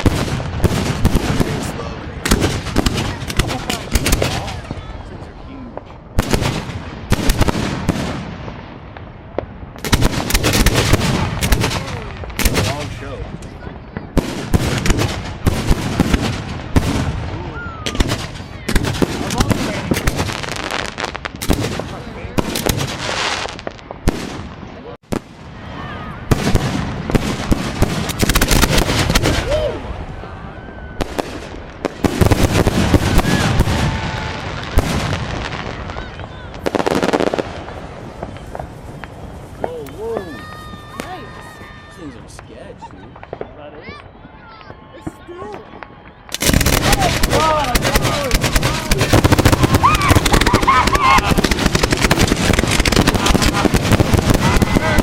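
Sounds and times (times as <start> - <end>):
fireworks exploding: 0.0 - 55.0.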